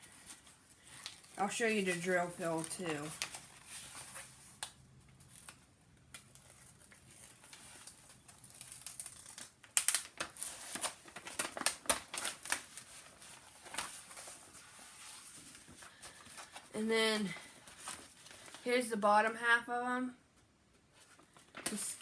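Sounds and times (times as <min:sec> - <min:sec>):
plastic and paper crinkling: 0:00.0 - 0:18.8, 0:20.8 - 0:22.0.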